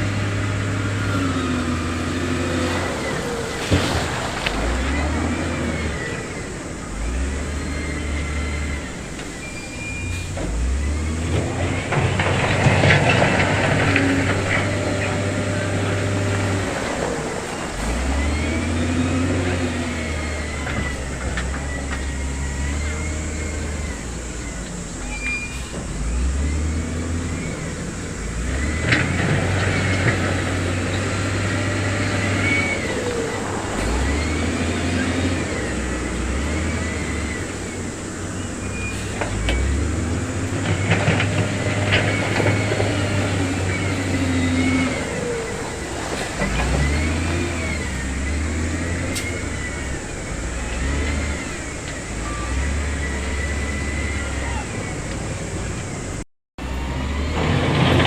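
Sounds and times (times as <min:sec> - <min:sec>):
heavy machinery diesel engine: 0:00.0 - 0:58.0
faint high squeals: 0:00.6 - 0:57.6.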